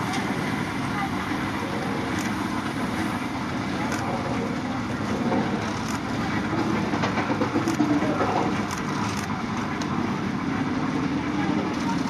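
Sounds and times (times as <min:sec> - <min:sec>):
railway turntable rumbling: 0:00.0 - 0:12.0.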